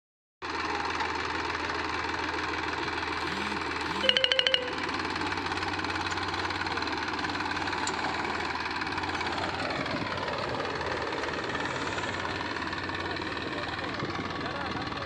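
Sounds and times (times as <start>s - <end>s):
tractor diesel engine under load: 0.4s - 15.0s.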